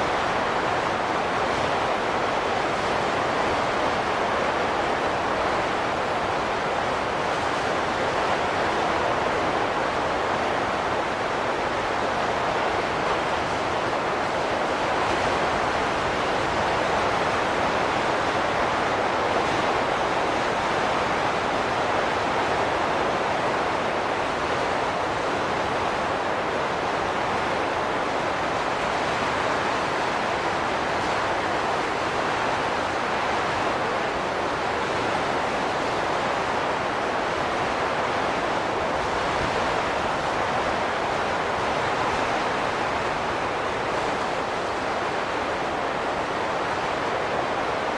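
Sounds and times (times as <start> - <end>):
wind blowing steadily: 0.0 - 47.9.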